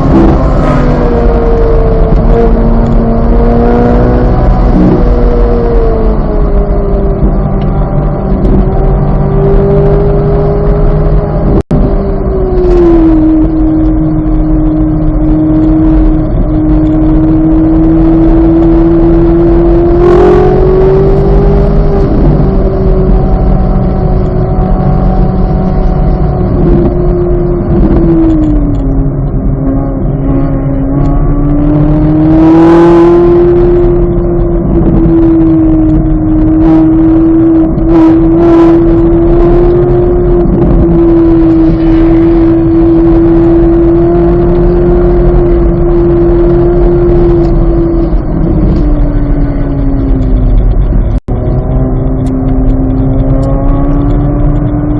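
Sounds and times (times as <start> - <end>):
car engine running hard: 0.0 - 54.9.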